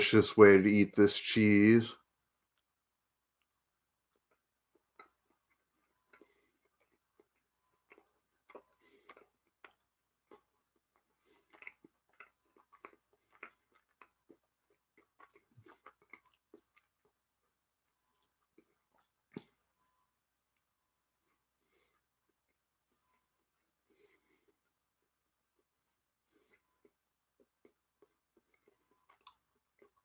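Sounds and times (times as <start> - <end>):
person chewing: 2.5 - 19.8, 20.5 - 30.0.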